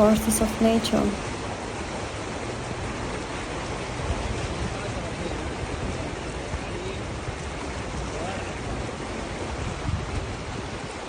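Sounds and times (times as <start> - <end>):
heavy downpour: 0.0 - 11.0.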